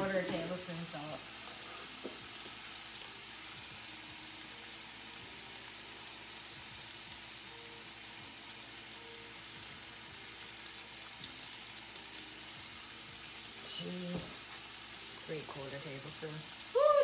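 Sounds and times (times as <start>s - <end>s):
vegetables sizzling in a skillet: 0.0s - 17.0s.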